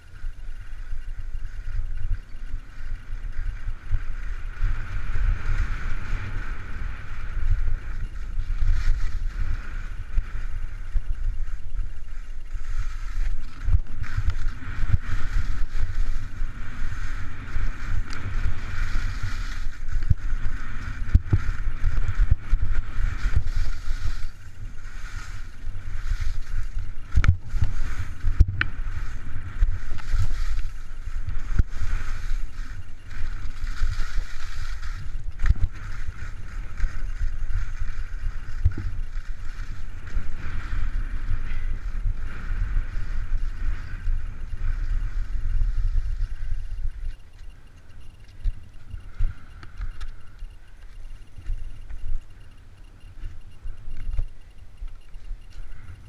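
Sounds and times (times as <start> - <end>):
skis scraping over crusty snow: 0.0 - 56.0
wind rumbling on microphone: 0.0 - 56.0.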